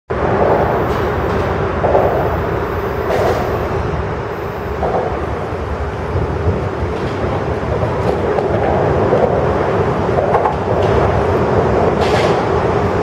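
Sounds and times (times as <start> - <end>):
freight train rumbling: 0.1 - 13.0.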